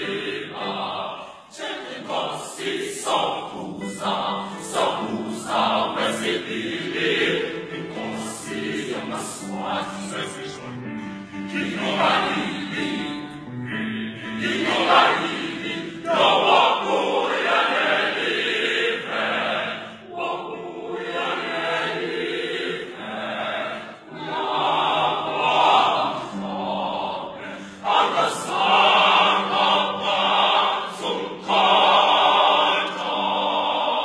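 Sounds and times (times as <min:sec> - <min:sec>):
mixed choir singing: 0:00.0 - 0:34.0.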